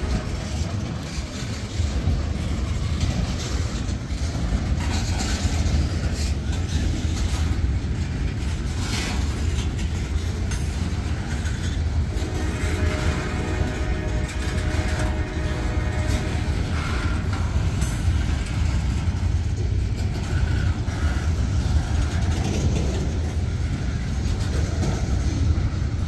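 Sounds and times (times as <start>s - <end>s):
train wheels rumbling on rail: 0.0s - 26.0s
wheels clacking over rail joints: 0.0s - 26.0s.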